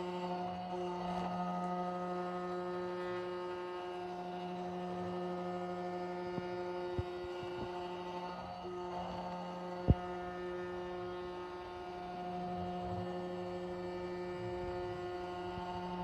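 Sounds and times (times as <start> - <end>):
cnc machine humming: 0.0 - 16.0.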